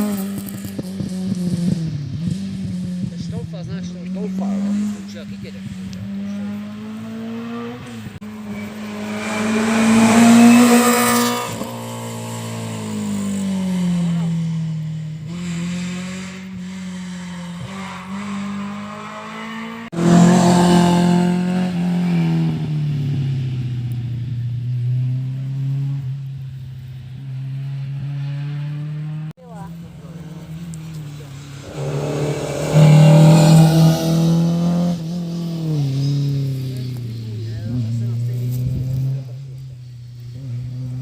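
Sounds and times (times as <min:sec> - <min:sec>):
rally cars passing at speed: 0:00.0 - 0:41.0.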